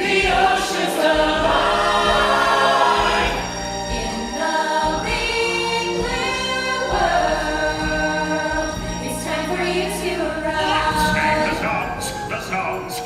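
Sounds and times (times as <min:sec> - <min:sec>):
backing music: 0:00.0 - 0:13.0
choir singing long notes: 0:00.0 - 0:13.0.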